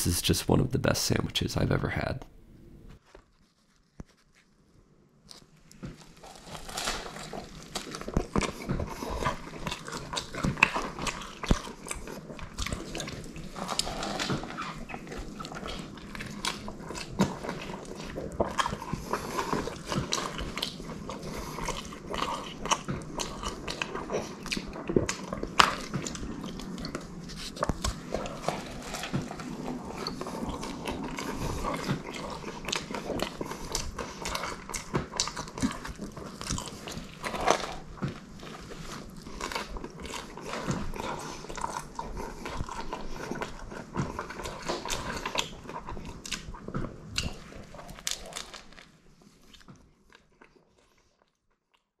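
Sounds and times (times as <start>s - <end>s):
crunchy chewing: 5.2s - 51.9s.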